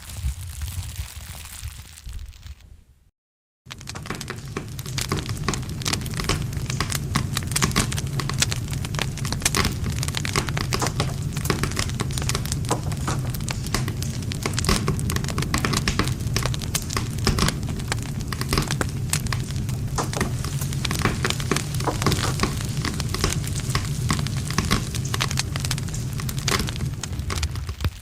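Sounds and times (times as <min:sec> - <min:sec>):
campfire crackling: 0:03.7 - 0:28.0.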